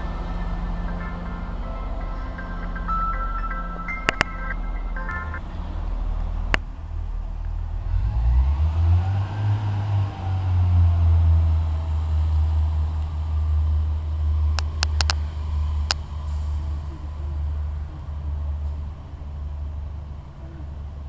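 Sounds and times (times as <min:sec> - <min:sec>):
train diesel engine throbbing: 0:00.0 - 0:21.0.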